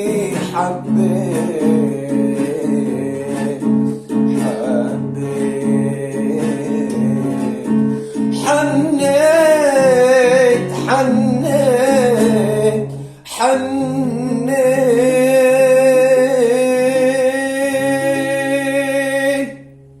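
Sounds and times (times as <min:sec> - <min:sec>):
man singing with vibrato: 0:00.0 - 0:19.8.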